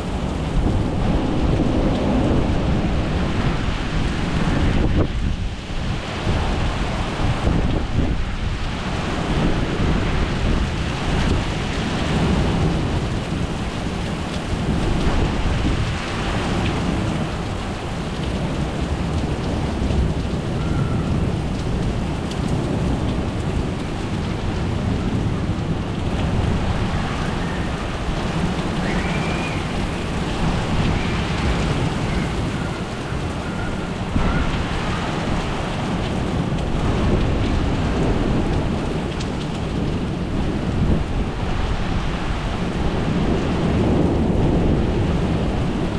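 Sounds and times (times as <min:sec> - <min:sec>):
heavy rain: 0:00.0 - 0:45.9
thunder rumbling: 0:00.0 - 0:45.9.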